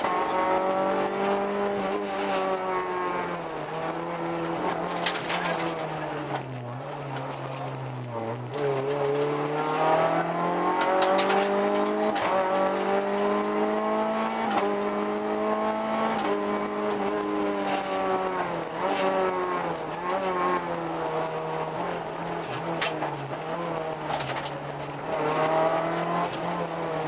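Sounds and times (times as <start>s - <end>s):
car engine at speed: 0.0s - 27.0s.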